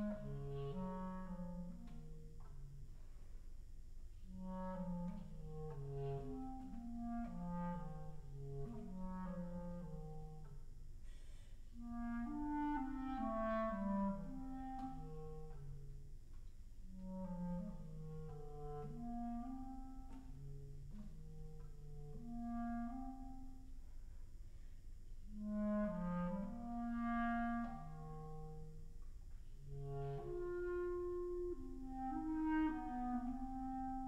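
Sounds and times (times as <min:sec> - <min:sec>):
solo clarinet slow melody: 0:00.0 - 0:34.0.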